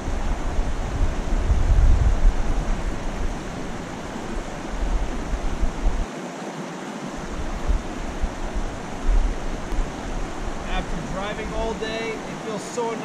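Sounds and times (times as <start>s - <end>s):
wind buffeting microphone: 0.0s - 6.1s, 7.0s - 12.6s
creek water rushing: 0.0s - 13.0s.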